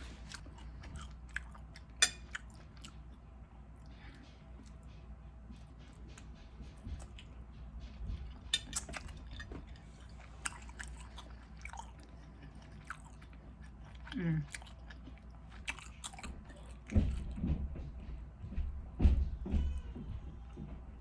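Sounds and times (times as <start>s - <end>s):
chewing food: 0.0s - 18.1s.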